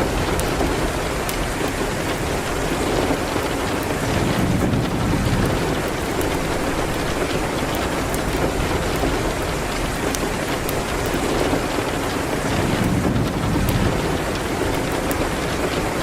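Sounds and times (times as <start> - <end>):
fireplace crackles: 0.0 - 16.0
rain hitting a window: 0.0 - 16.0.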